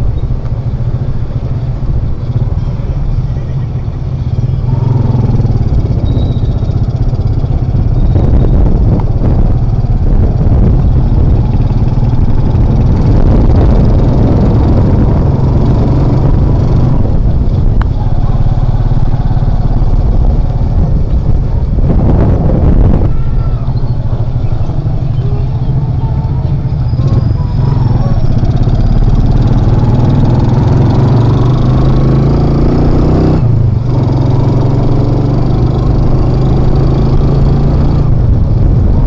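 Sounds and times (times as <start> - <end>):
motorcycle engine running: 0.0 - 39.0
road noise: 0.0 - 39.0.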